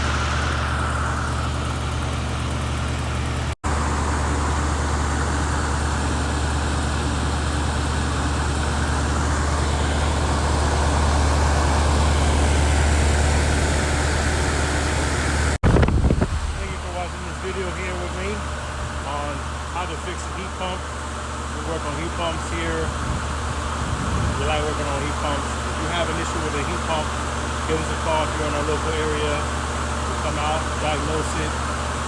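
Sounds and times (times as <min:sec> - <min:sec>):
compressor hum: 0:00.0 - 0:32.0
fan blowing air: 0:00.0 - 0:32.0.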